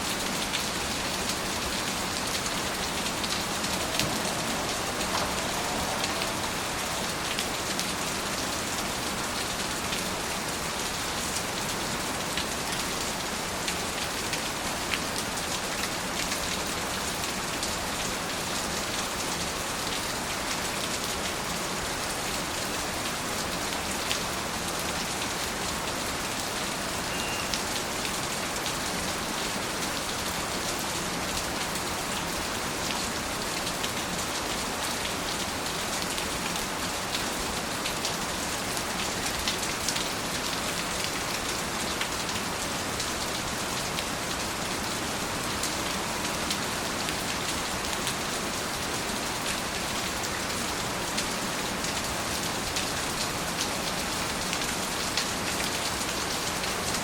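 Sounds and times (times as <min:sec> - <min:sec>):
rain drops ticking on a surface: 0:00.0 - 0:57.0.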